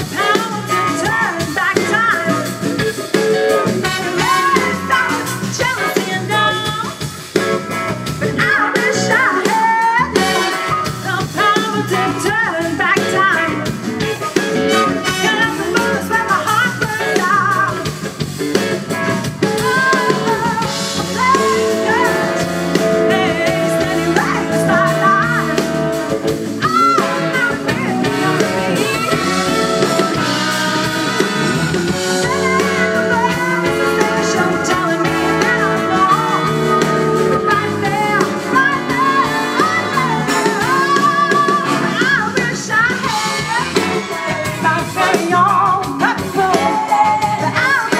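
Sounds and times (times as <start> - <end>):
woman singing: 0.0 - 7.4, 8.0 - 18.6, 19.2 - 47.9
drum kit: 0.0 - 47.9
electric guitar: 0.0 - 47.9.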